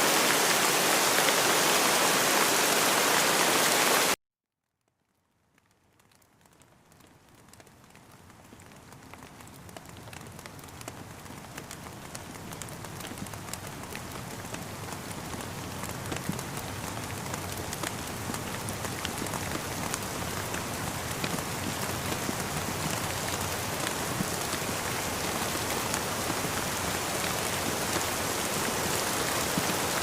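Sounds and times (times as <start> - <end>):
rain with sharp drop ticks: 4.8 - 30.0.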